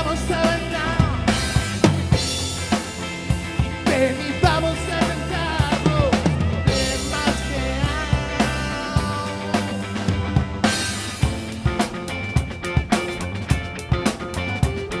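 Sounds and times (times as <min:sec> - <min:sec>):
drum kit beat: 0:00.0 - 0:15.0
electric bass: 0:00.0 - 0:15.0
electric guitars: 0:00.0 - 0:15.0.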